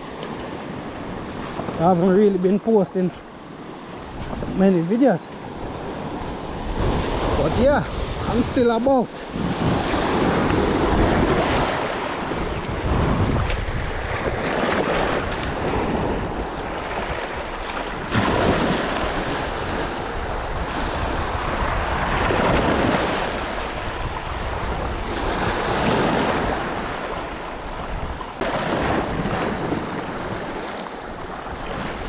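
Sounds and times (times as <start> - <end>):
surf washing over rocky shore: 0.0 - 32.0
wind rumbling on microphone: 0.0 - 32.0.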